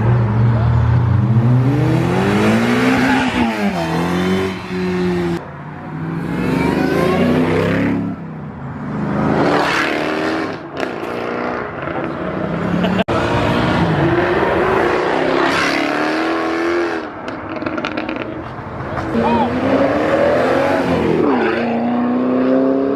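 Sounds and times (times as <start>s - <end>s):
car engines accelerating hard: 0.0s - 22.9s.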